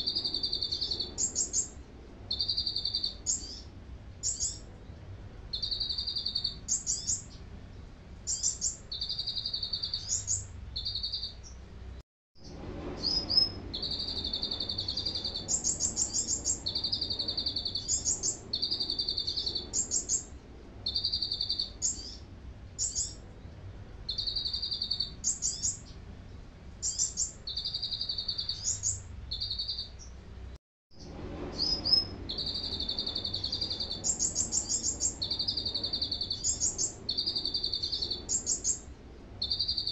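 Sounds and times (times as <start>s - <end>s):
bird singing rattling trills: 0.0s - 11.6s, 12.4s - 22.2s, 22.8s - 30.2s, 31.0s - 39.9s.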